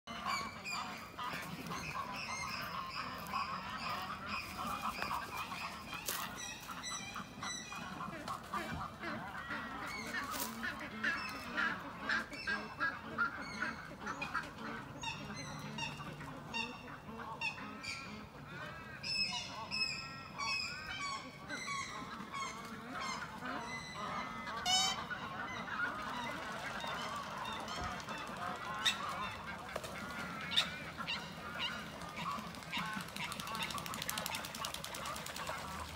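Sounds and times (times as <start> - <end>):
chorus of ibis calls: 0.1 - 35.9.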